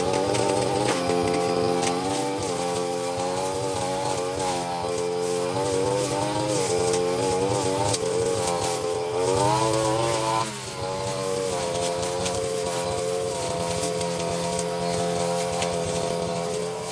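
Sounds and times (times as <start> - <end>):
brushcutter engine running: 0.0 - 16.9.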